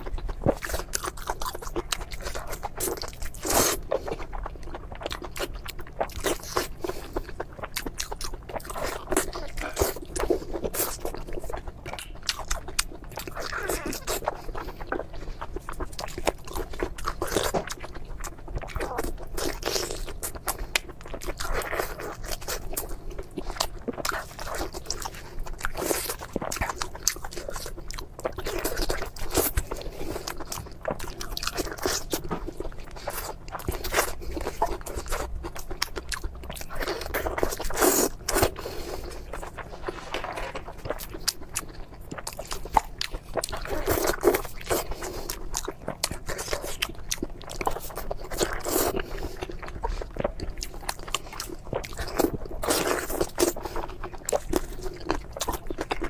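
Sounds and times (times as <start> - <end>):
chewing crispy fried food: 0.0 - 56.0.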